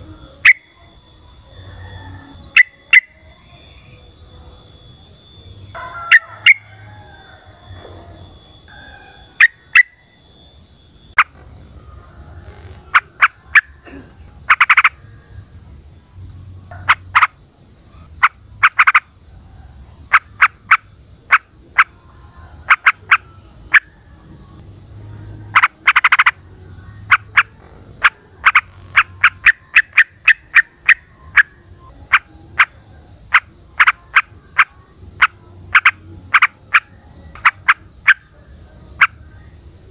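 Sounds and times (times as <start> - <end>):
frogs or insects trilling: 0.0 - 39.9.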